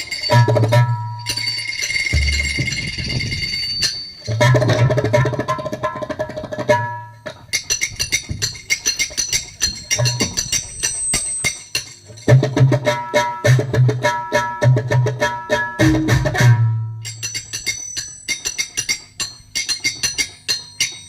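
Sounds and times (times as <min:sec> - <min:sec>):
glass struck rhythmically: 0:00.0 - 0:21.0.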